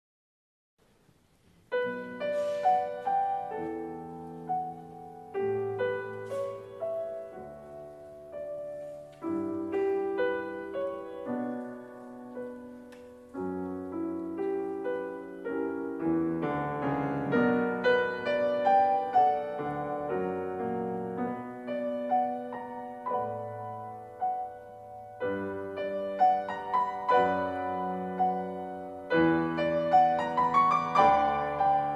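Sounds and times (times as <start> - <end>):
solo piano music: 1.4 - 31.9.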